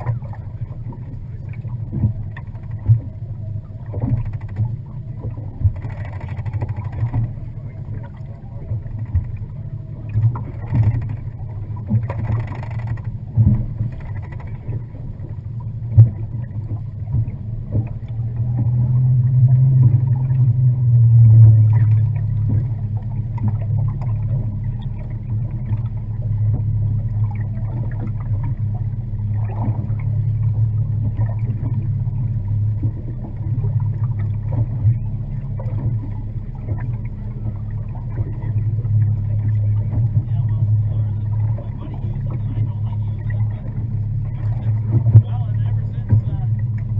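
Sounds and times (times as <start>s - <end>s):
boat motor running: 0.0s - 46.9s.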